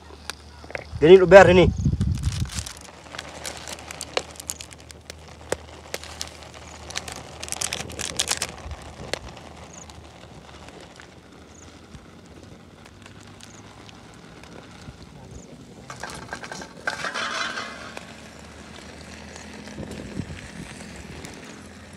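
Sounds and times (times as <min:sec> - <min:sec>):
wood fire crackling: 0:00.0 - 0:21.9
plastic sachets crinkling: 0:01.9 - 0:15.0, 0:15.8 - 0:21.8.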